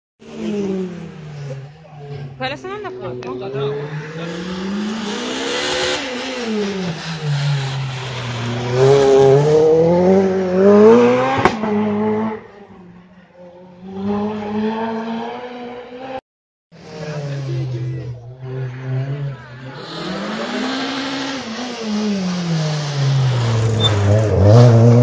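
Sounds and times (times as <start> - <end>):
rally car engine revving: 0.2 - 16.2, 16.8 - 25.0.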